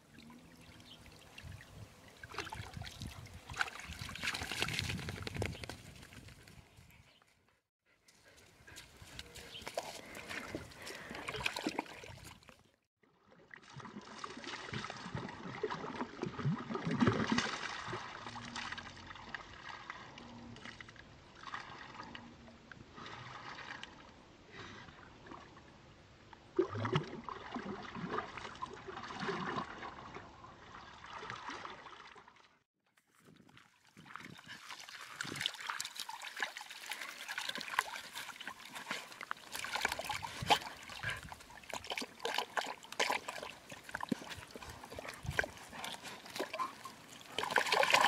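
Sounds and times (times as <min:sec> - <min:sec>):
water splashing in a plastic tank: 0:00.0 - 0:06.2, 0:09.6 - 0:22.2, 0:26.5 - 0:48.0.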